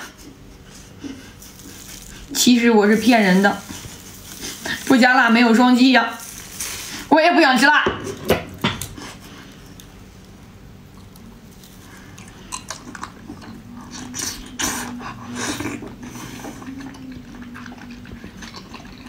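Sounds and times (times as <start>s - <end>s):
low steady hum: 0.0s - 19.0s
biting and wet chewing: 0.6s - 7.1s, 8.1s - 19.0s.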